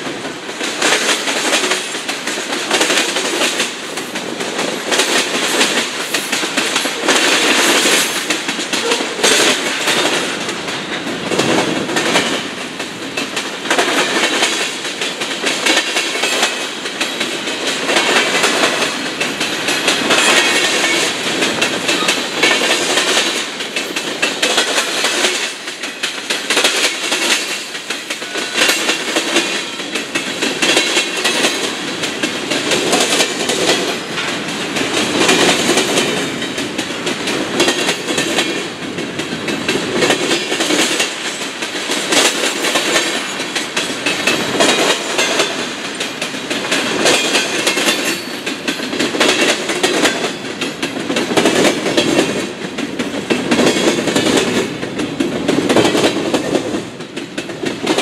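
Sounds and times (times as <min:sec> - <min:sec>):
freight train rolling past: 0:00.0 - 0:58.0
steel wheels clacking: 0:00.1 - 0:58.0.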